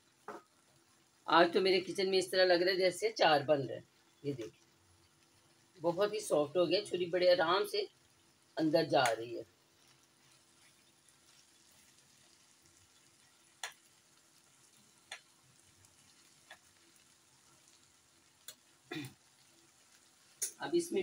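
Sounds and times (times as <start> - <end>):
potatoes sizzling in a pan: 0.0 - 21.0.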